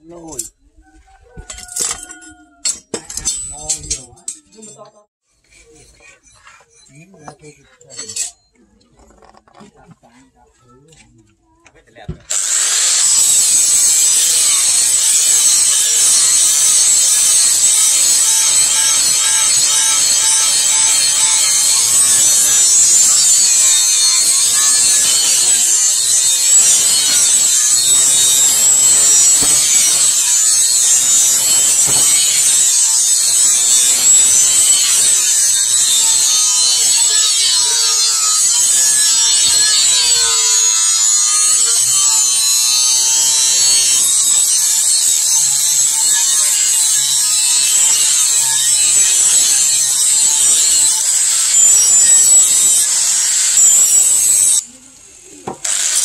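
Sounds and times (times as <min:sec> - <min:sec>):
angle grinder grinding steel: 0:01.2 - 0:09.7, 0:12.2 - 0:56.0.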